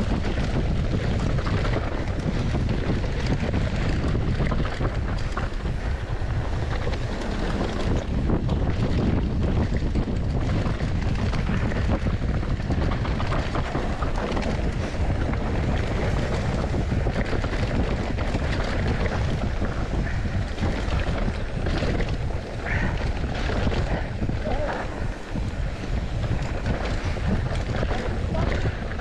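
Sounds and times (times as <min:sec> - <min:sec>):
bike knocks and rattles: 0:00.0 - 0:29.0
tyre noise on trail: 0:00.0 - 0:29.0
wind buffeting microphone: 0:00.0 - 0:29.0.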